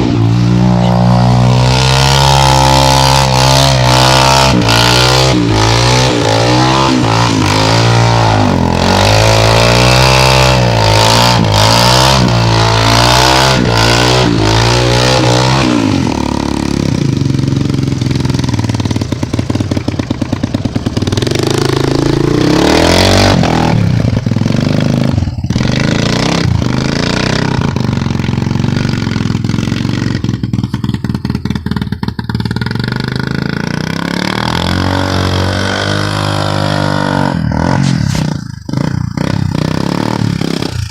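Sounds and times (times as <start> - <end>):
engine revving: 0.0 - 40.9.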